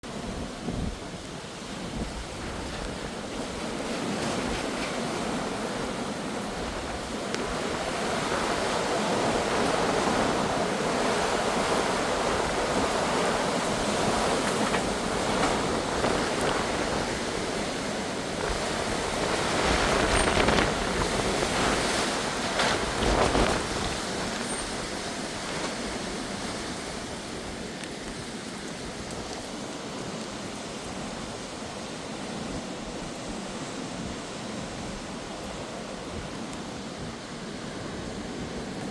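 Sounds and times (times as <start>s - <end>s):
wind buffeting microphone: 0.0s - 31.6s
strong gusty wind: 0.0s - 38.9s.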